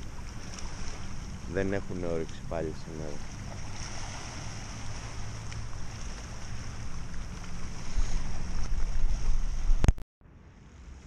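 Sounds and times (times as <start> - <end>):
waves lapping on stony shore: 0.0 - 9.9
wind buffeting microphone: 0.0 - 10.0.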